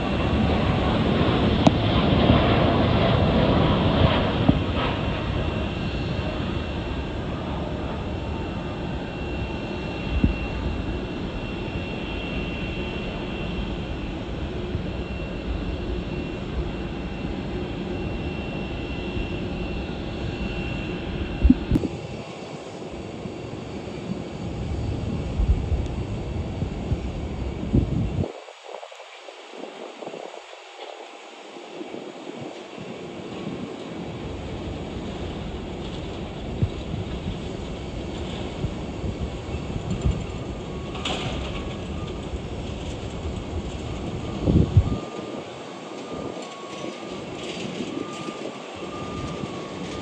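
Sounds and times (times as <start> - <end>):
jet airliner engine rumble: 0.0 - 50.0.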